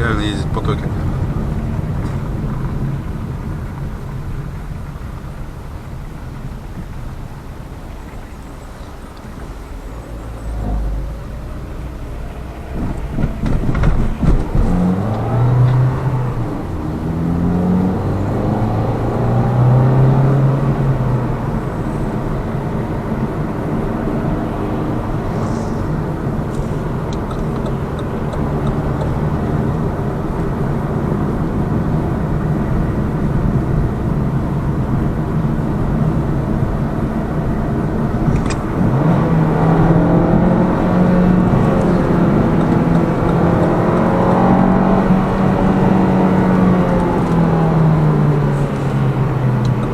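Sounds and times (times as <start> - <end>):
car engine inside cabin: 0.0 - 49.9.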